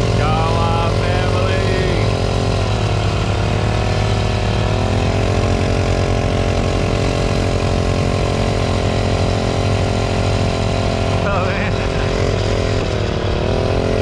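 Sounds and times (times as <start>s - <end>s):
small gas engine running: 0.0s - 14.0s.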